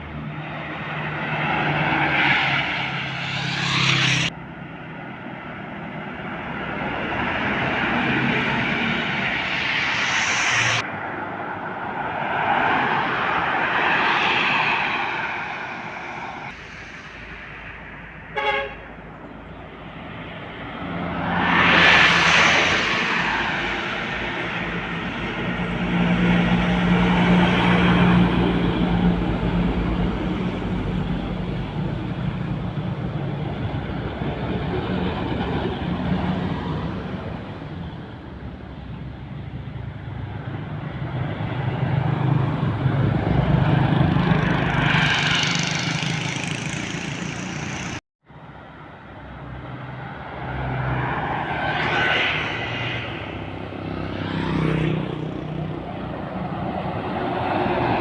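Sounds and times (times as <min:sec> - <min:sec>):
diesel trucks passing: 0:00.0 - 0:58.0.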